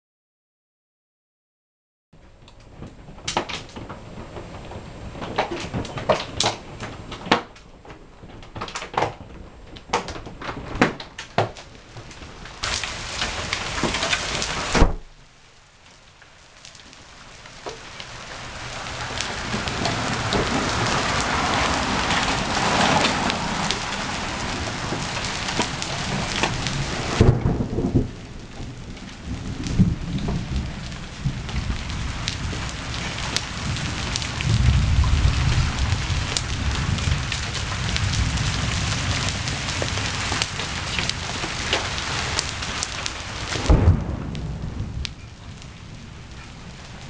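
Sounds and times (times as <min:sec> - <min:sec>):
rush of hail and rain: 0:02.3 - 0:47.0
hailstones knocking on window: 0:02.7 - 0:14.8, 0:17.6 - 0:45.6.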